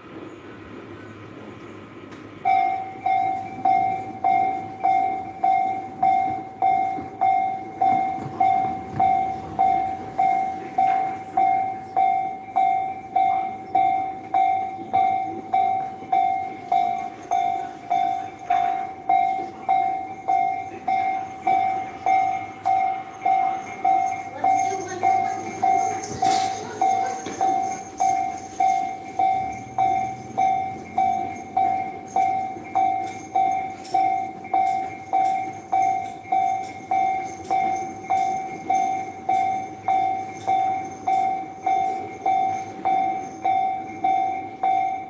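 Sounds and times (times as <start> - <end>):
level crossing warning bell: 0.0 - 45.0.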